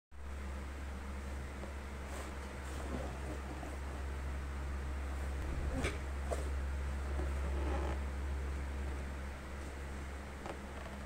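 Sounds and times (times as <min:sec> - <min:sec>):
low hum: 0:00.1 - 0:11.0.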